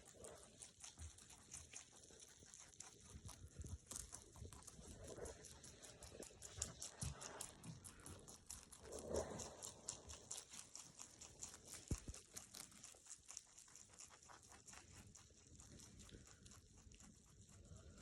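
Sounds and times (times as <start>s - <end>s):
rabbits crunching greens: 0.0s - 18.0s.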